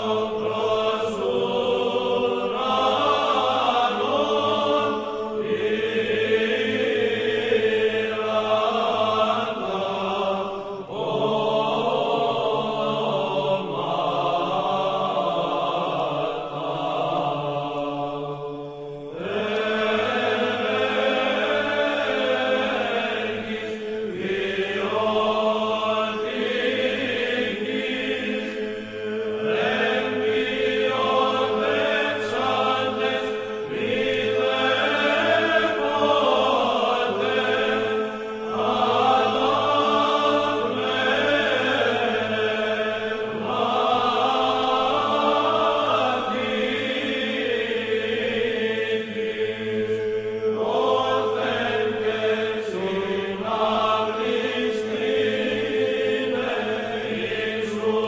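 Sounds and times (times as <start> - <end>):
choral chanting: 0.0 - 58.0.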